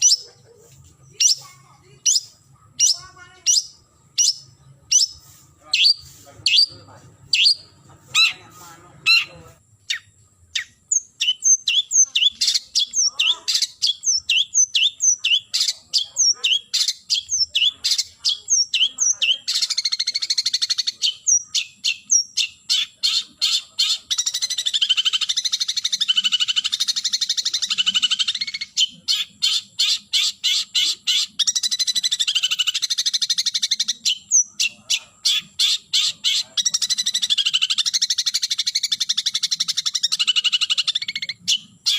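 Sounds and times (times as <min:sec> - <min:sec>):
bird harsh chatter: 0:00.0 - 0:41.9
shrike calling: 0:00.0 - 0:41.9.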